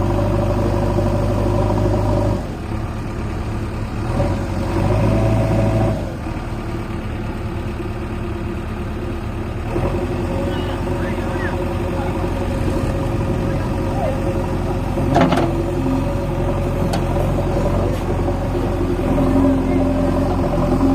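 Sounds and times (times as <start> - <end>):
diesel engine revving: 0.0 - 20.9.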